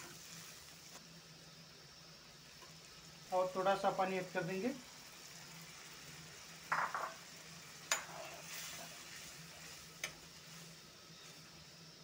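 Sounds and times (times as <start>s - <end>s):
gravy sizzling: 0.0s - 12.0s.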